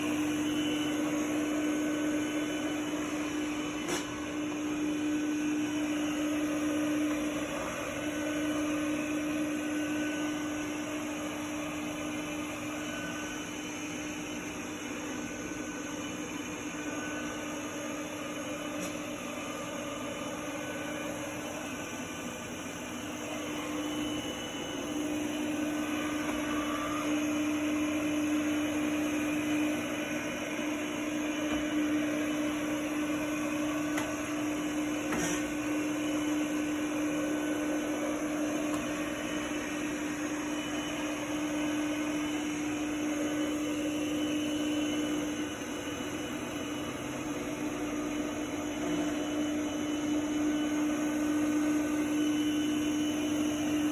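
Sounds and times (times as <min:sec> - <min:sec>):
robot vacuum motor hum: 0:00.0 - 0:53.9.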